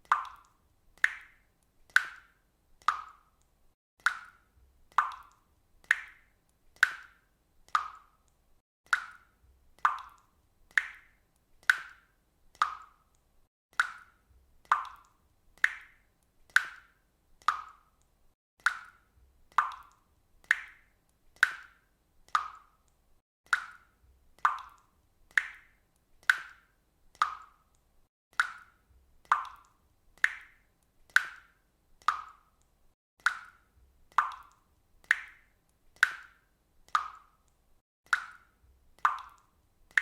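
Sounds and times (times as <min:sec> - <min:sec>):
water dripping: 0:00.0 - 0:40.0.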